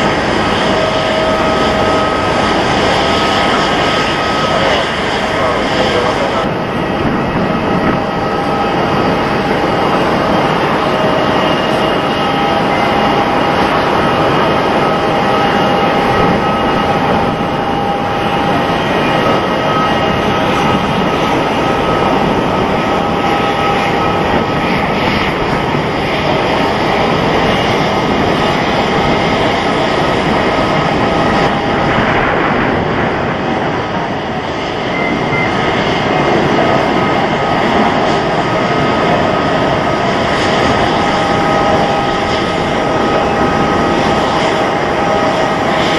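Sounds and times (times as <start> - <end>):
high jet engine whine: 0.0 - 45.9
jet plane taking off: 0.0 - 45.9.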